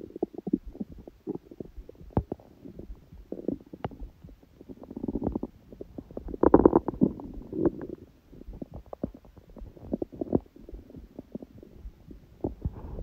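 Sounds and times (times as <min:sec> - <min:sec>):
stomach growling and gurgling: 0:00.0 - 0:13.0.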